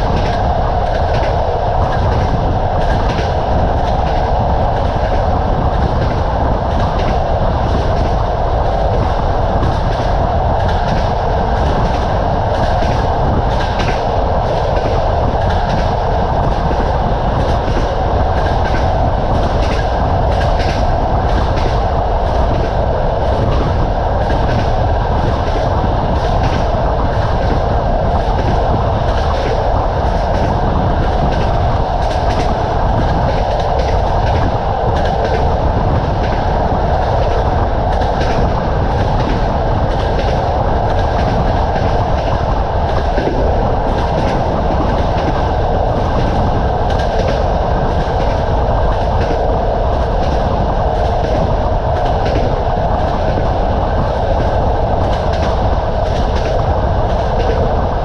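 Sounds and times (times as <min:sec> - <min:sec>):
railway carriage rumble: 0:00.0 - 0:58.0
train wheels clattering: 0:00.0 - 0:58.0.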